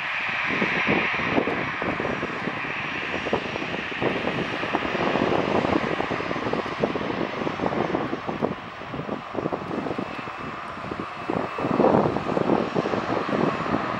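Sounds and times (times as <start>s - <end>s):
jet engines whining: 0.0s - 13.9s.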